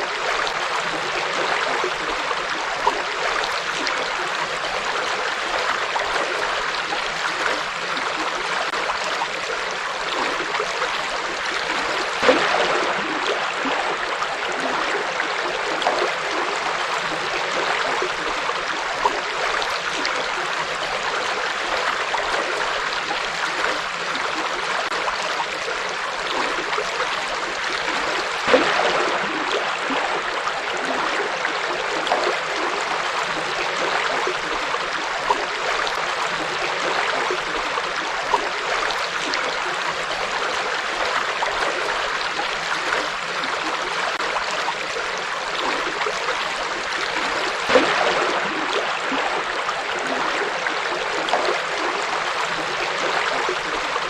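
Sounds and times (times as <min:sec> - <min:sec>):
water splashes and gurgles: 0:00.0 - 0:54.0.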